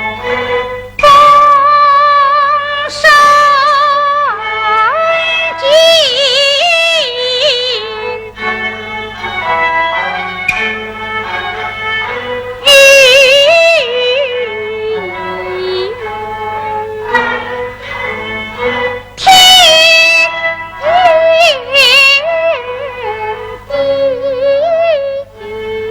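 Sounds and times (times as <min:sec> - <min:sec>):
opera music with wavering melody: 0:00.0 - 0:25.9.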